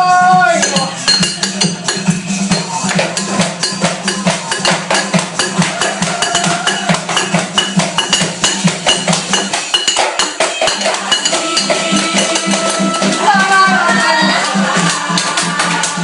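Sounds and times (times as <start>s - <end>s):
music with percussive beat: 0.0s - 16.0s
pitched melody: 0.0s - 16.0s.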